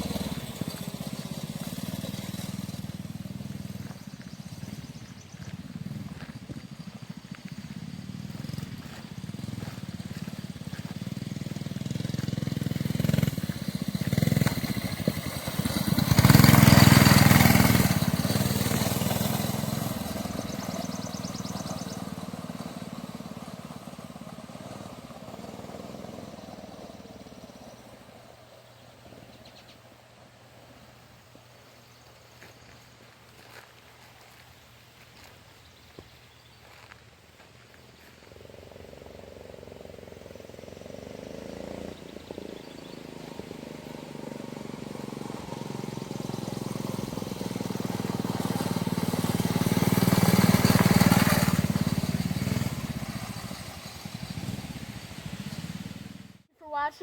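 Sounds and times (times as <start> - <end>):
mini bike engine passing: 0.0 - 31.1, 37.8 - 57.0.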